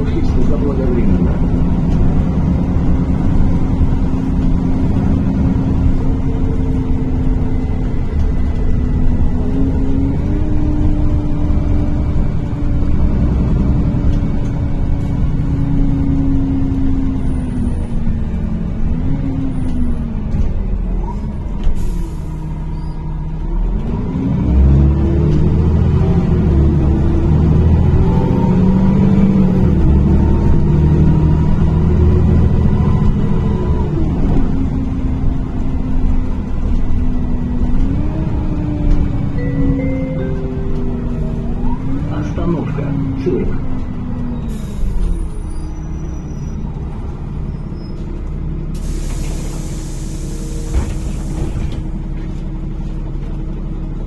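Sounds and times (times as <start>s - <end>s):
bus engine rumble: 0.0s - 54.0s.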